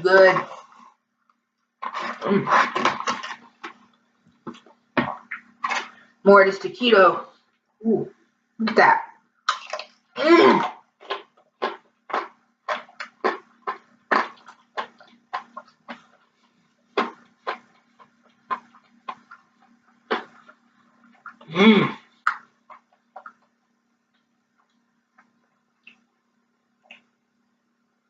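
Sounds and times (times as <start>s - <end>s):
chewing crispy food: 0.5s - 6.0s, 9.5s - 27.2s.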